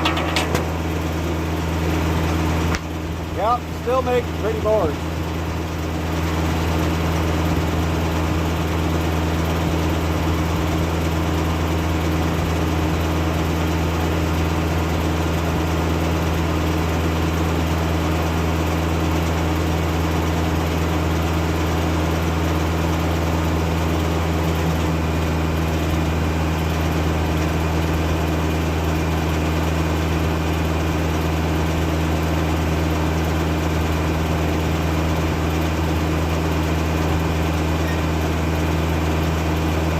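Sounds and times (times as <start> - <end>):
tractor engine running sawmill: 0.0 - 39.9.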